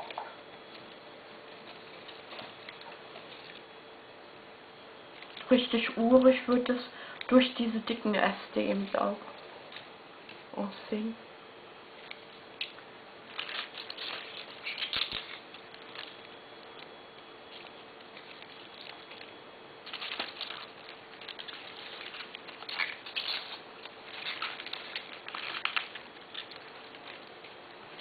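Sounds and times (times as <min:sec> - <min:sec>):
flower stems rustling: 0:00.0 - 0:03.8, 0:05.0 - 0:10.7, 0:11.9 - 0:28.0.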